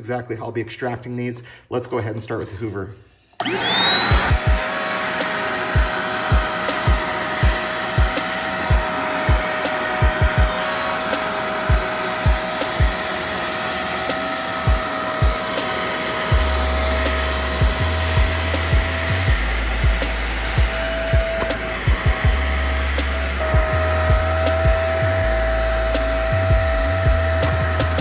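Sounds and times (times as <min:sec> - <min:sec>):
carpet extractor motor whining: 0:03.4 - 0:28.0.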